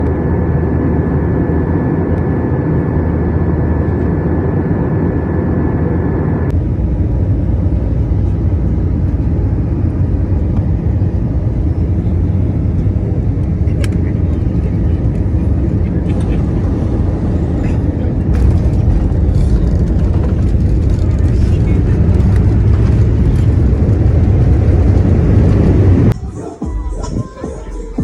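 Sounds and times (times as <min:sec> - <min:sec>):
airliner engines rumbling: 0:00.0 - 0:28.0.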